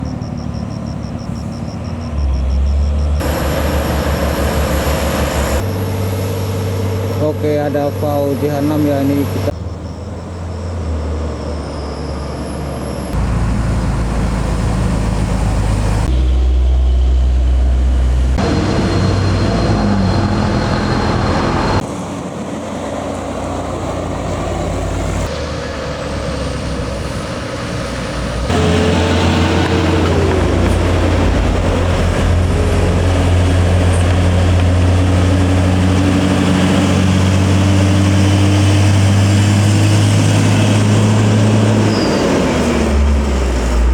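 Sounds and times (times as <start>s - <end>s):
diesel truck engines labouring: 0.0s - 43.9s
road noise: 0.0s - 43.9s.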